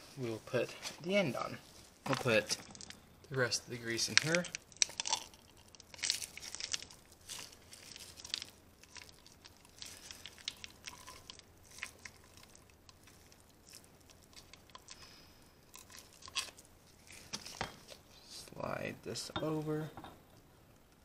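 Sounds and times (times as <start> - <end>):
grease squelching and crackling: 0.2 - 18.4.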